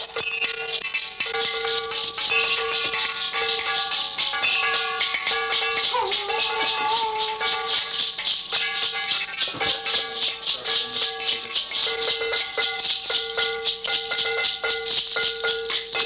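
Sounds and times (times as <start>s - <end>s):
shaker rhythm: 0.0s - 16.0s.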